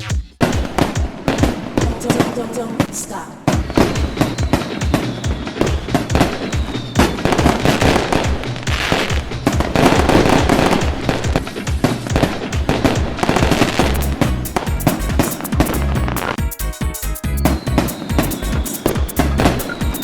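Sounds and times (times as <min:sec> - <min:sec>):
fireworks bangs and crackles: 0:00.4 - 0:16.4, 0:17.5 - 0:20.0.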